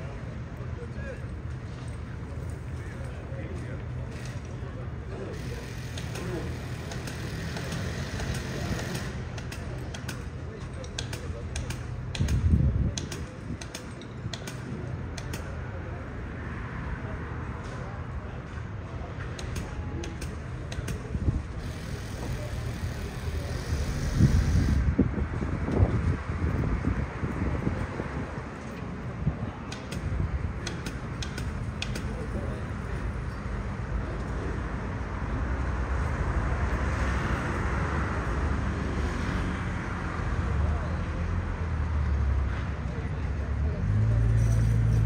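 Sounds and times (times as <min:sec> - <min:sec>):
traffic noise: 0:00.0 - 0:45.0.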